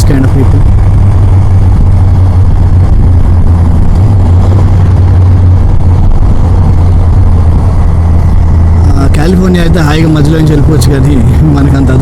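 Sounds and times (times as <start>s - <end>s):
motorcycle engine cruising: 0.0s - 12.0s
rush of riding in traffic: 0.0s - 12.0s.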